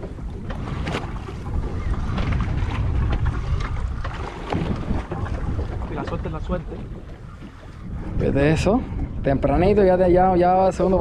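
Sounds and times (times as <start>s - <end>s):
water sounds: 0.0s - 11.0s
wind buffeting microphone: 0.0s - 11.0s.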